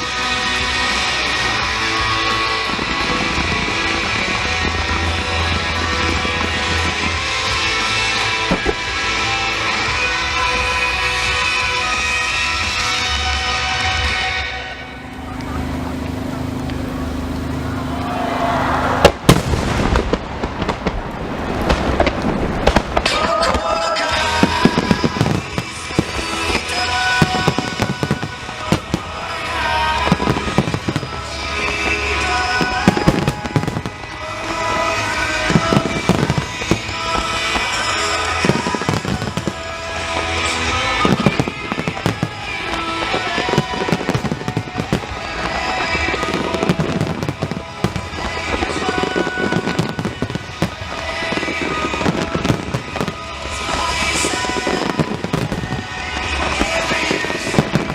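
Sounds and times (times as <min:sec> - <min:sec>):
music playing: 0:00.0 - 0:19.2, 0:23.0 - 0:57.9
fireworks bursting and crackling: 0:00.0 - 0:57.9.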